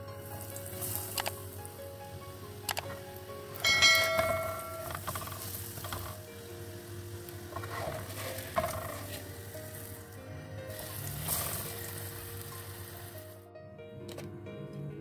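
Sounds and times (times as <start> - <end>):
sandwich sizzling in oil: 0.0 - 13.4
soft background music: 0.0 - 15.0.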